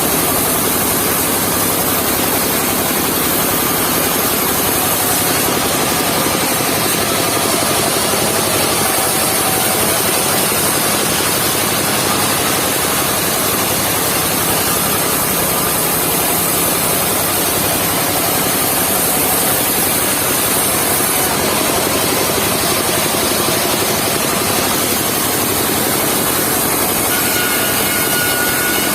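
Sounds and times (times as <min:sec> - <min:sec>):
sawmill engine running: 0:00.0 - 0:28.9.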